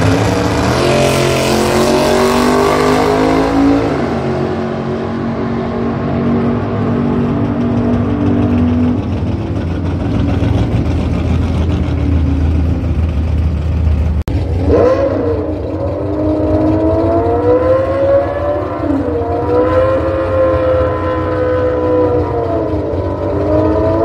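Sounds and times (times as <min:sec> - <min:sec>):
engine revving and accelerating: 0:00.0 - 0:12.5, 0:14.2 - 0:24.0
car engine rumbling: 0:00.0 - 0:24.0.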